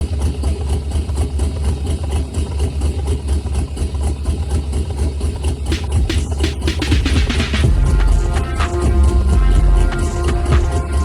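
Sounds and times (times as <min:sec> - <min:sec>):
car exhaust idling: 0:00.0 - 0:11.0.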